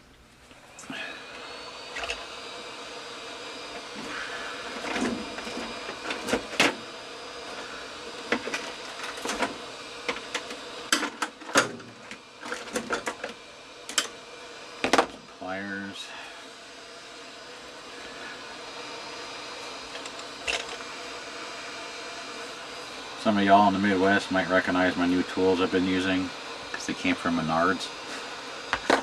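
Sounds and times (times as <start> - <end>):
heat gun blowing: 0.0 - 29.0.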